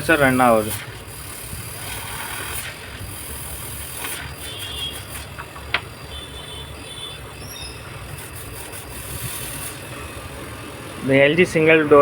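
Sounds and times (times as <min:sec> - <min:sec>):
fridge compressor humming: 0:00.0 - 0:12.0.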